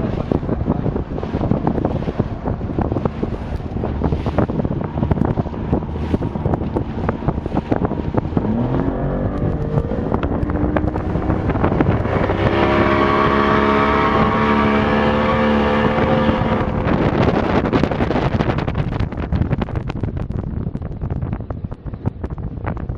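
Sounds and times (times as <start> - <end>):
motorboat engine: 0.0 - 22.9
wind buffeting microphone: 0.0 - 22.9.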